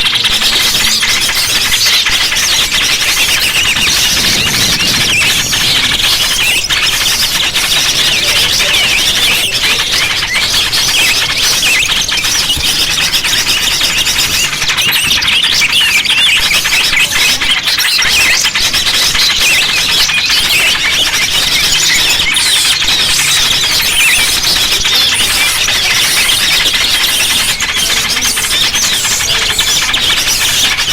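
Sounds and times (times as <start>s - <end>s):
small birds chirping and twittering: 0.0s - 30.9s.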